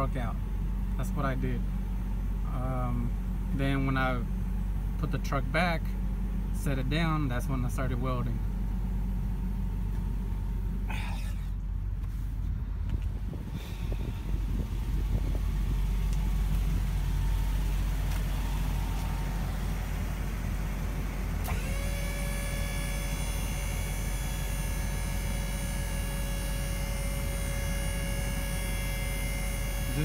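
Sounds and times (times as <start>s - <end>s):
truck engine idling: 0.0s - 30.0s
hydraulic pump whine: 2.3s - 30.0s.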